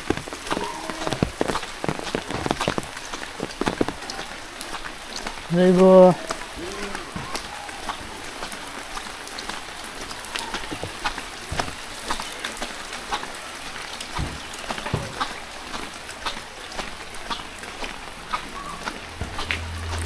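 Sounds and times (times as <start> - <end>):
rain drops clicking: 0.0 - 20.0.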